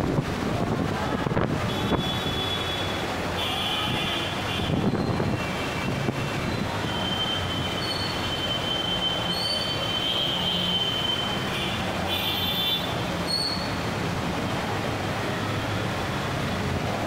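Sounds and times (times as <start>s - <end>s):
heavy rain: 0.0s - 17.0s
vehicles wading through floodwater: 0.0s - 17.0s.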